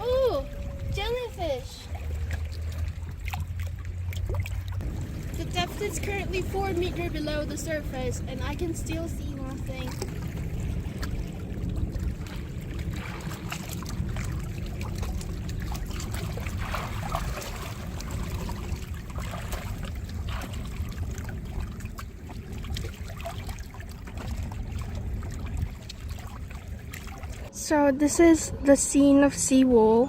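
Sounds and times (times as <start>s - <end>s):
small splashes: 0.0s - 8.6s, 9.3s - 27.5s
water lapping and trickling: 0.0s - 27.7s
low rumble: 0.0s - 30.0s.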